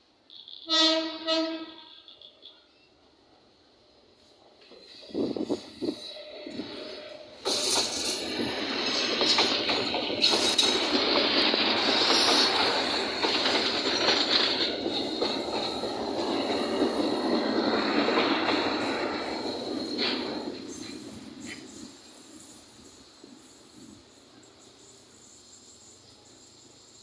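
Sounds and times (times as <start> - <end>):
train wheels rolling on rails: 2.0 - 27.0.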